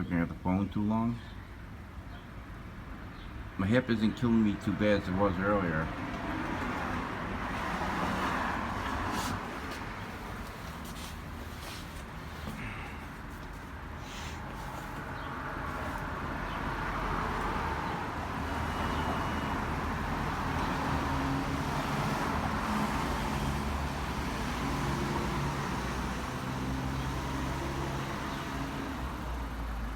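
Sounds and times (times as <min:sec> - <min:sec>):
road traffic rushing: 0:01.3 - 0:29.9.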